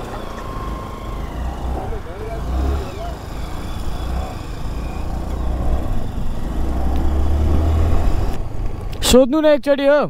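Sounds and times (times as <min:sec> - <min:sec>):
scooter engine and road noise: 0:00.0 - 0:09.3.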